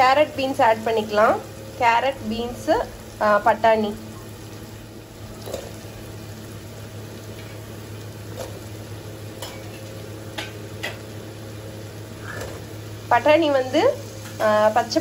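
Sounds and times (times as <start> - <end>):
masala sizzling in a pot: 0.0 - 15.0.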